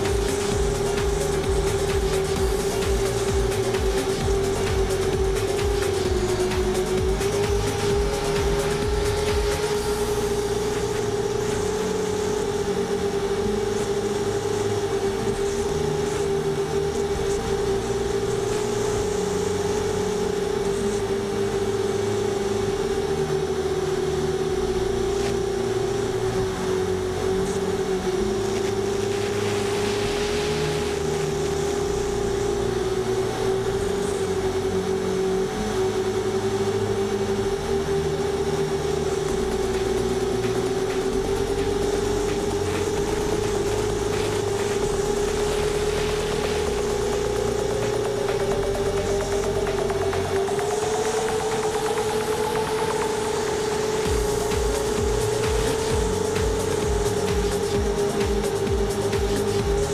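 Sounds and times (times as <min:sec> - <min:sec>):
drone motors and propellers droning: 0:00.0 - 0:59.9.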